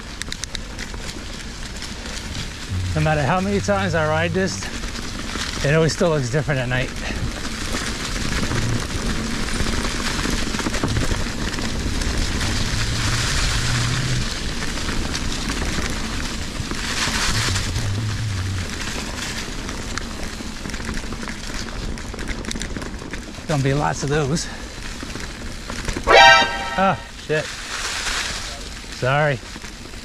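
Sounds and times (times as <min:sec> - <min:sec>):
bike rattling over bumps: 0:00.0 - 0:26.1, 0:27.7 - 0:30.0
bike tyres on leaves and dirt: 0:00.0 - 0:30.0.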